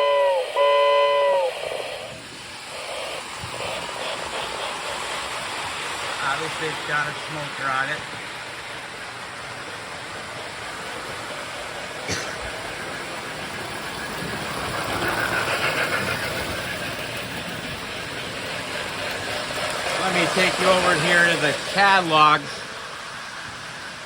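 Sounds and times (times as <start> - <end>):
toy electric train running: 0.0 - 24.0.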